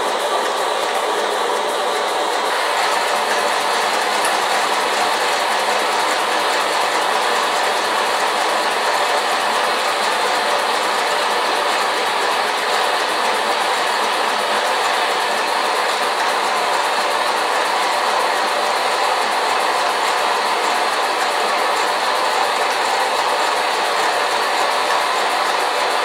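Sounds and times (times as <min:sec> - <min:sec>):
model steam engine clatter: 0:00.0 - 0:26.0.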